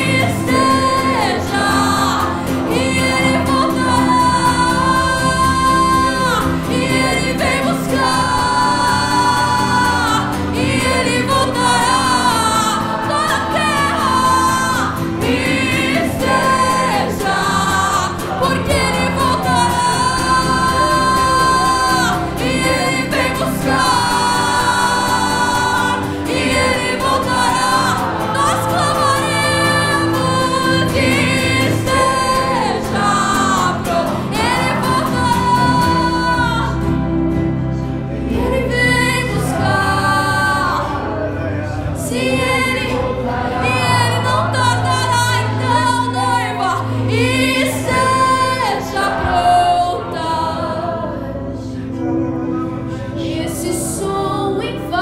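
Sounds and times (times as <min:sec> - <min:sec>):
acoustic guitar: 0:00.0 - 0:55.0
keyboard: 0:00.0 - 0:55.0.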